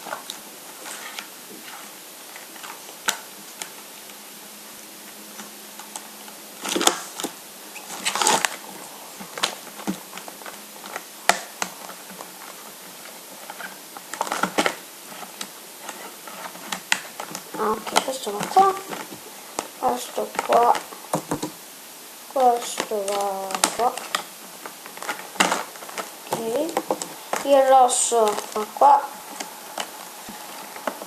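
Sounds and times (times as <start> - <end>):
packaging rustling: 0.0 - 4.2, 5.3 - 21.6, 22.4 - 31.0.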